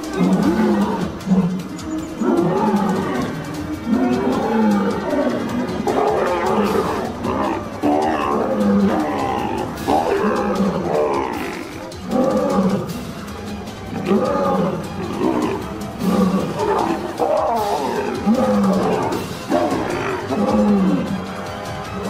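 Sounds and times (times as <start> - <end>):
lion growling roars: 0.0 - 13.3, 13.9 - 21.3
background music: 0.0 - 22.0.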